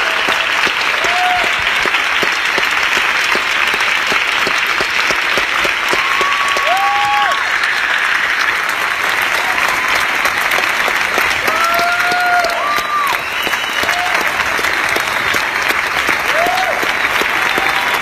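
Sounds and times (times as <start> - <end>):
long held cheers: 0.0 - 2.2, 5.6 - 18.0
audience applauding: 0.0 - 18.0.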